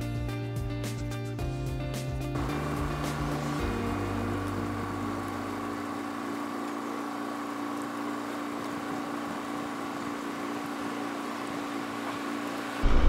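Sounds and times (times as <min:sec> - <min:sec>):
boat motor humming: 0:02.3 - 0:13.0
water wash: 0:02.4 - 0:13.0.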